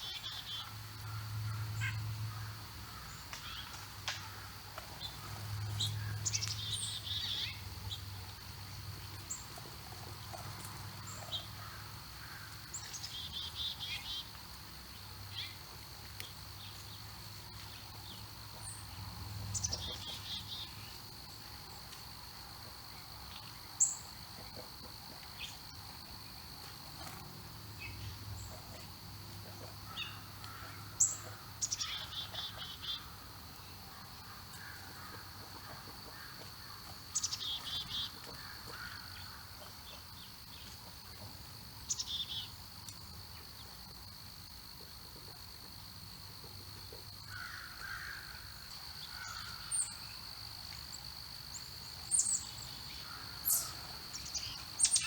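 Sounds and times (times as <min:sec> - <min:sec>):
faint chirps of other birds: 0:00.0 - 0:21.9, 0:27.8 - 0:42.6, 0:46.4 - 0:50.3, 0:50.9 - 0:55.0
insects droning: 0:00.0 - 0:55.0.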